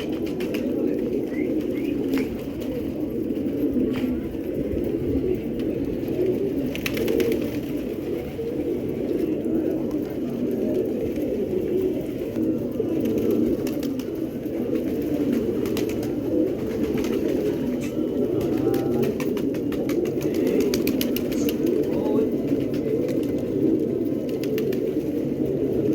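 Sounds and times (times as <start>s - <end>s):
pigeons cooing: 0.0s - 25.9s.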